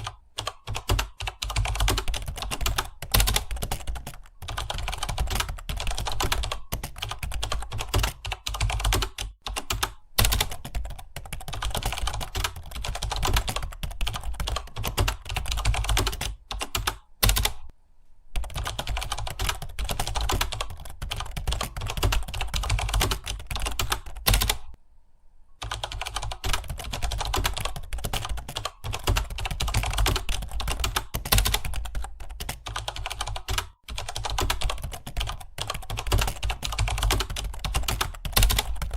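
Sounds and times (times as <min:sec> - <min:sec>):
fast typing on keyboard: 0:00.0 - 0:17.7, 0:18.4 - 0:24.8, 0:25.6 - 0:38.9.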